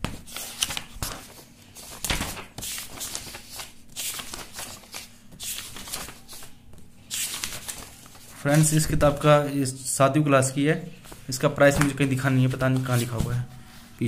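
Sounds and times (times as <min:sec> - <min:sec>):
pages being turned: 0:00.0 - 0:09.0, 0:11.0 - 0:13.5.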